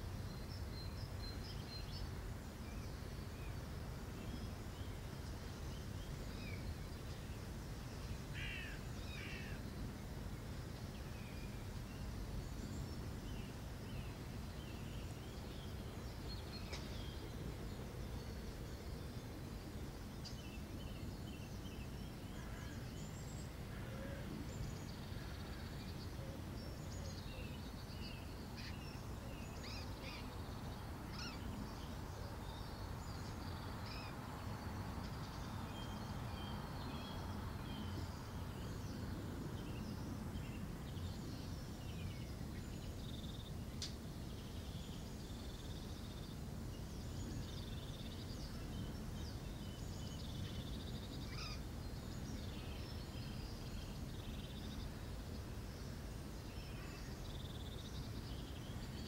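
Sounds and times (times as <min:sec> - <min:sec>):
small birds chirping: 0:10.6 - 0:59.0.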